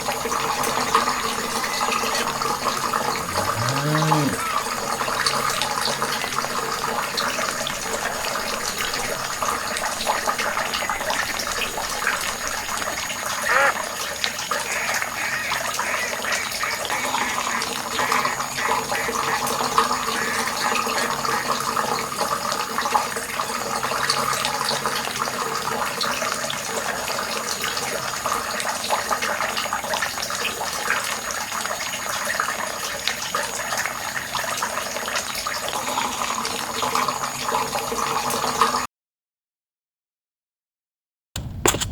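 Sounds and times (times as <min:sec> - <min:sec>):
water running: 0:00.0 - 0:38.8.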